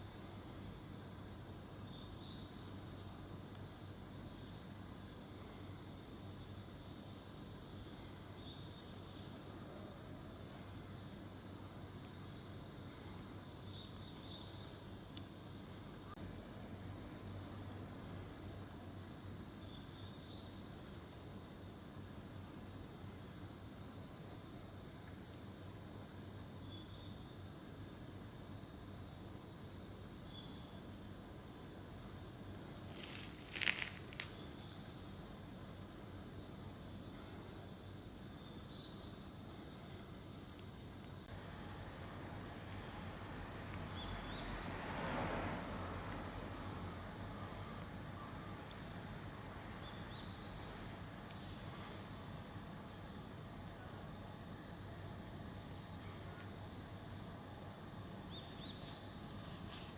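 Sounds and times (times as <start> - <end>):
high-pitched hiss: 0.0 - 59.9.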